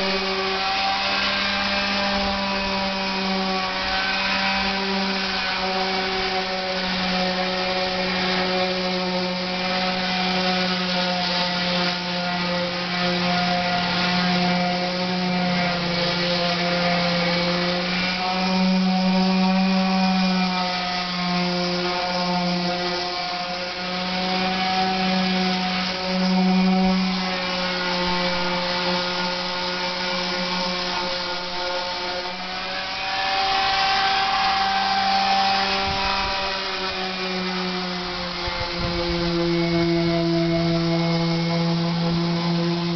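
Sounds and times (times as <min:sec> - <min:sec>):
power sander on fiberglass: 0:00.0 - 0:42.9.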